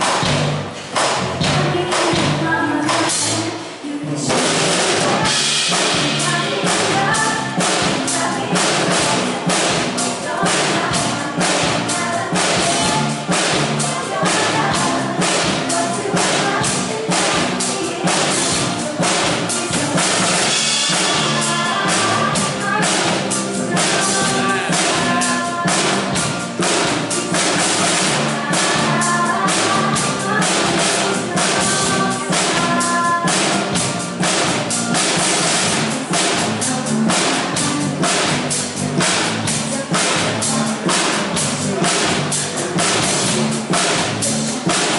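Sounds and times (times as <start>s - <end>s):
band playing pop song: 0.0s - 44.9s
drum kit beat: 0.0s - 44.9s.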